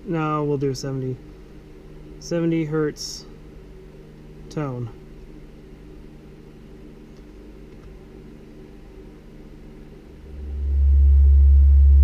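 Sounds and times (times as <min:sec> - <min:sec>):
low steady hum: 0:00.0 - 0:12.0
subwoofer sine test tone: 0:00.0 - 0:12.0.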